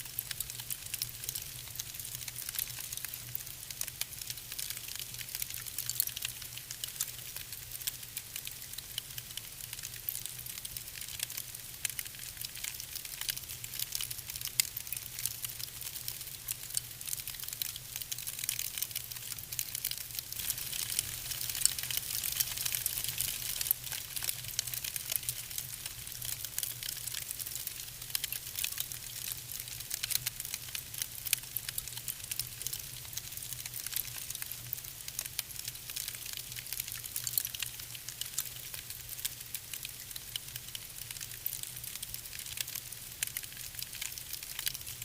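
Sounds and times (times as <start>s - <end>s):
wood fire crackling: 0.1s - 45.0s.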